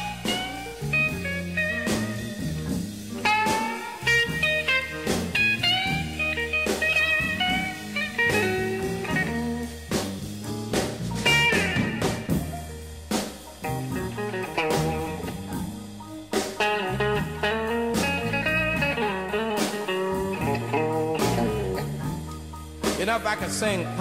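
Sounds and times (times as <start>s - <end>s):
bass line: 0.0s - 24.0s
drums: 0.0s - 24.0s
electric blues guitar: 0.0s - 24.0s.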